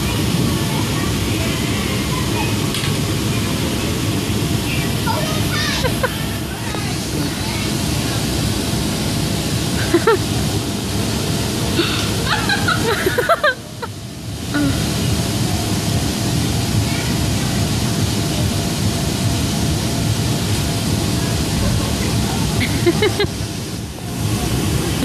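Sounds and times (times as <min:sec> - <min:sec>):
electric air blowers rushing: 0:00.0 - 0:25.0.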